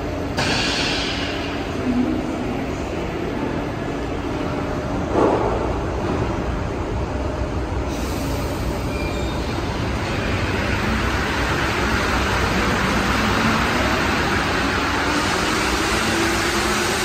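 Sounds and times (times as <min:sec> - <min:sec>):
metro train rumbling: 0:00.0 - 0:17.0.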